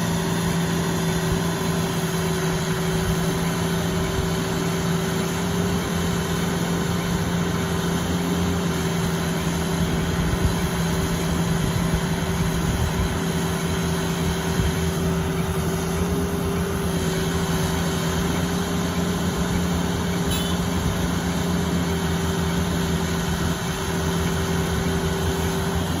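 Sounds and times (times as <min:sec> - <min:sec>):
heavy machine engine idling: 0:00.0 - 0:26.0.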